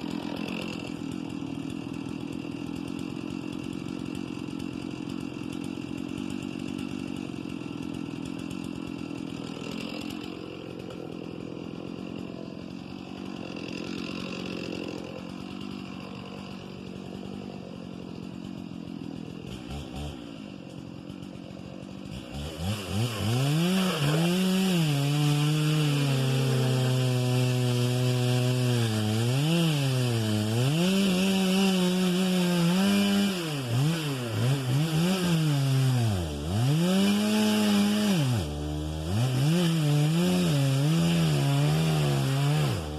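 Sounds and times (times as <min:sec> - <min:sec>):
chainsaw revving and bogging: 0:00.0 - 0:42.9.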